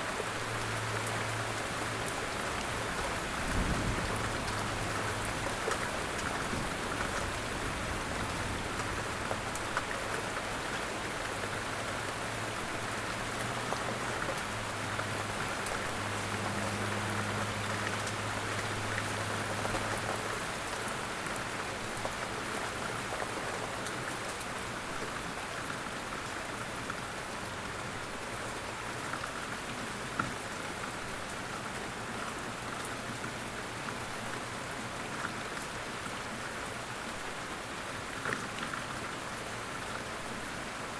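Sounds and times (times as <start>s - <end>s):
rain falling on a surface: 0.0s - 40.9s.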